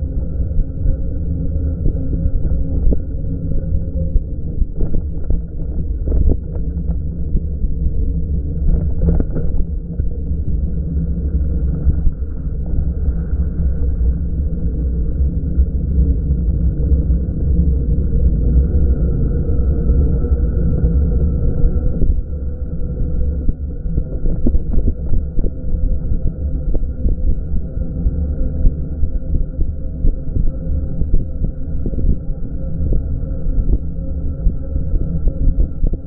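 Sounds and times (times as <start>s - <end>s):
electric bike riding rumble: 0.0s - 36.0s
wind on microphone: 0.0s - 36.0s.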